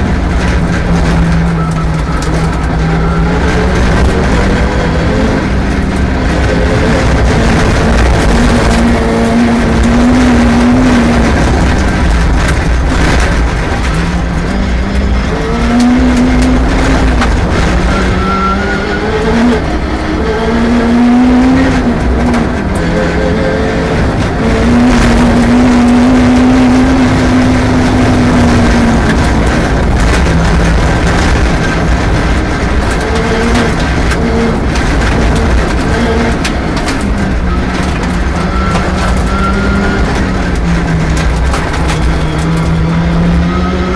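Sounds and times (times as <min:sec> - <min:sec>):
rally car engine revving: 0:00.0 - 0:43.9
road and tyre noise: 0:00.0 - 0:43.9.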